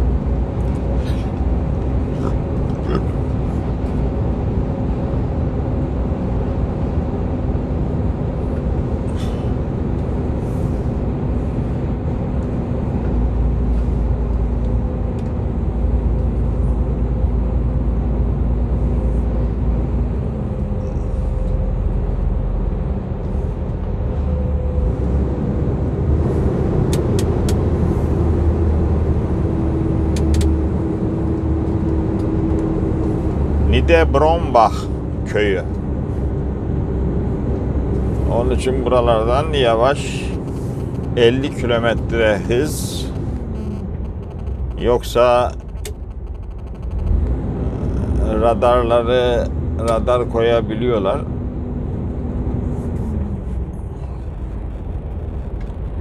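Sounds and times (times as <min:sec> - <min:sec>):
lorry diesel engine driving: 0:00.0 - 0:56.0
road noise: 0:00.0 - 0:56.0.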